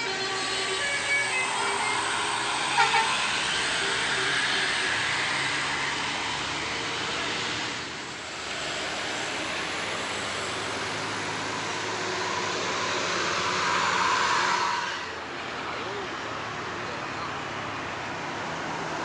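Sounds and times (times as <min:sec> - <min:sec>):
diesel bus engine running: 0:00.0 - 0:19.0.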